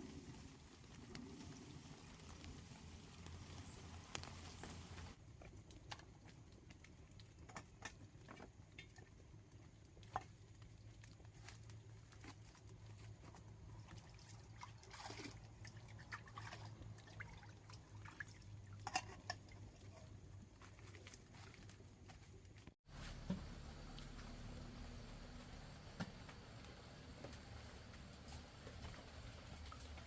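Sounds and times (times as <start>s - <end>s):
water drips and ticks: 0.3s - 22.7s, 23.6s - 30.0s.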